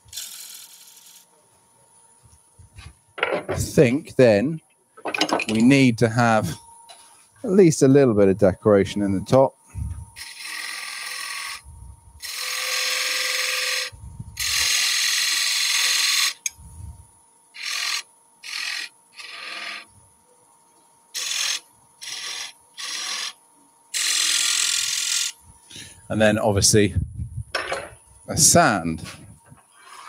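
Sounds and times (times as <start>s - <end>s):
faint steady whine: 0.0s - 30.0s.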